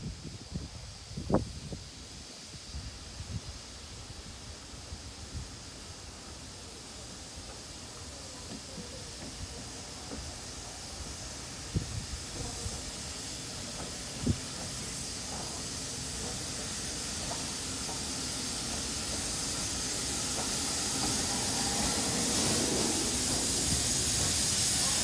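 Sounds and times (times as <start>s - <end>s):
steam locomotive hissing: 0.0s - 25.0s.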